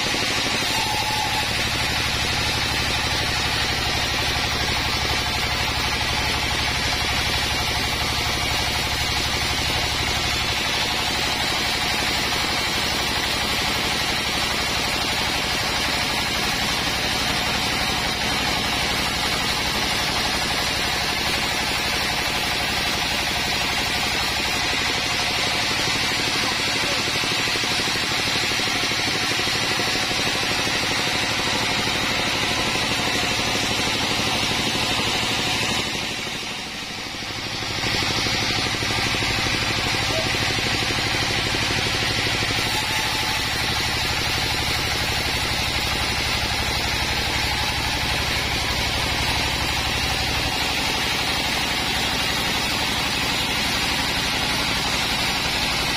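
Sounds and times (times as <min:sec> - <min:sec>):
band saw machine hum: 0:00.0 - 0:55.9.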